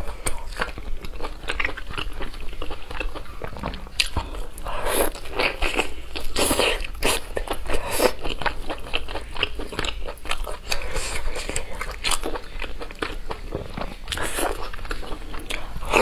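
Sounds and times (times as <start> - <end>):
chewing and biting food: 0.0 - 16.0.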